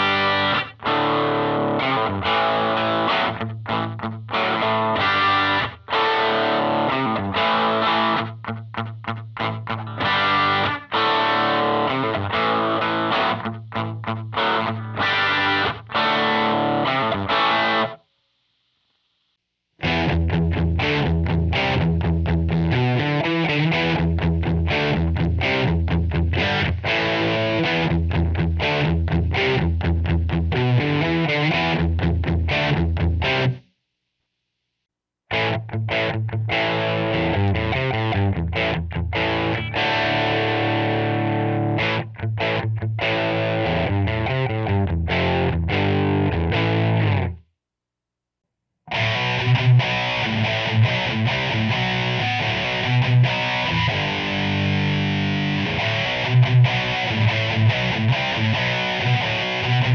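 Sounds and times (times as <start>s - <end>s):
electric guitar riff: 0.0s - 18.0s, 19.8s - 33.6s, 35.3s - 47.4s, 48.9s - 59.9s.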